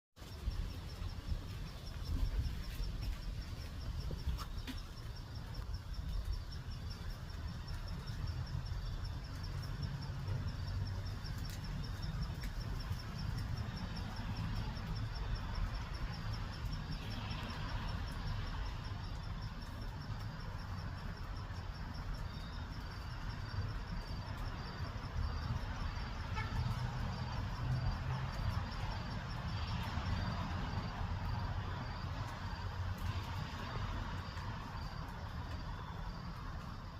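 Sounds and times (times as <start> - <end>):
insect chirping: 0.2 - 36.9.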